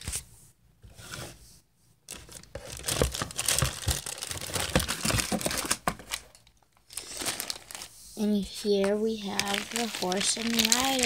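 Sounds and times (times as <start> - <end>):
plastic bags crinkling: 2.1 - 11.0.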